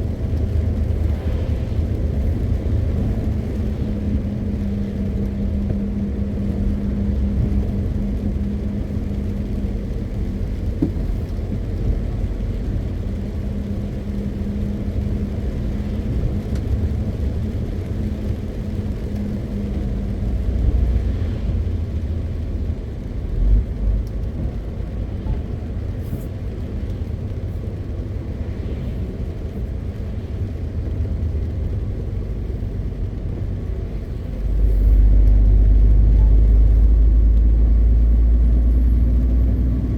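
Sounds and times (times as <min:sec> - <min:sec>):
road rumble: 0:00.0 - 0:39.9
truck engine drone: 0:00.0 - 0:39.9.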